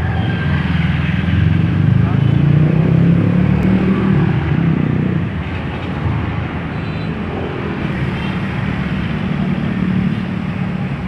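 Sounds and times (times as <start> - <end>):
tyre and road noise: 0.0 - 11.0
vehicle engines humming: 0.0 - 11.0.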